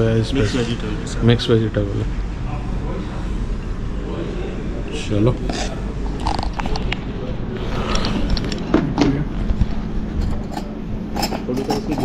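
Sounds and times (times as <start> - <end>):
restaurant room noise: 0.0 - 12.0.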